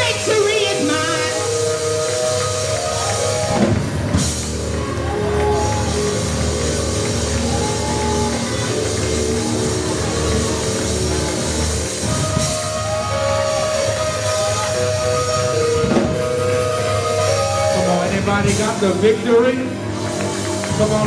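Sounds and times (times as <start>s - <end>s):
drums: 0.0s - 21.0s
gospel band music: 0.0s - 21.0s
steady bass line: 0.0s - 21.0s.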